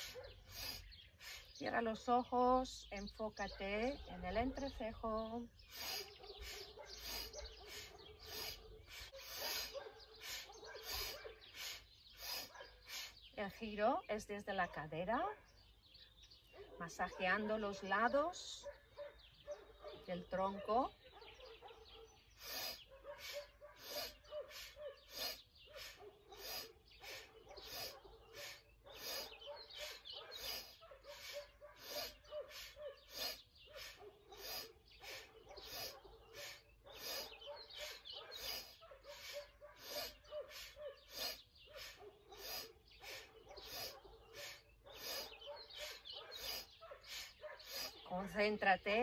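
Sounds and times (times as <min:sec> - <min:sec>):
rapid rhythmic breathing: 0:00.0 - 0:13.9, 0:22.2 - 0:49.0.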